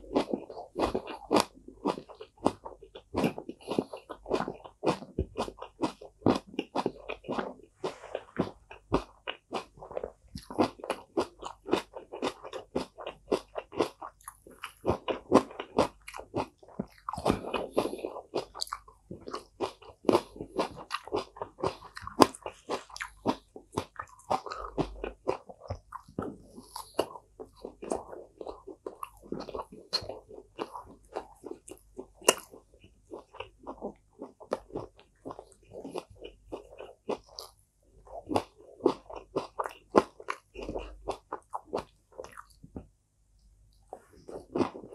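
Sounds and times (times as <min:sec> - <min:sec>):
chewing crunchy food: 0:00.0 - 0:44.9.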